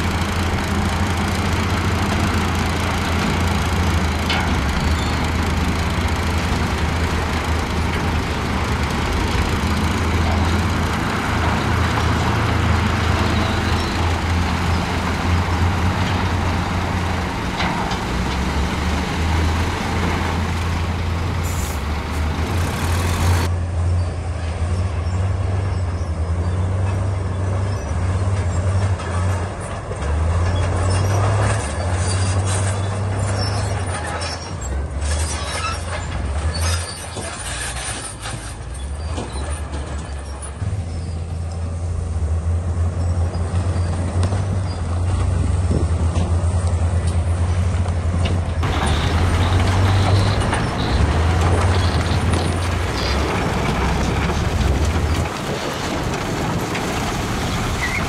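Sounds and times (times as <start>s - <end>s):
heavy diesel engine working: 0.0s - 58.0s.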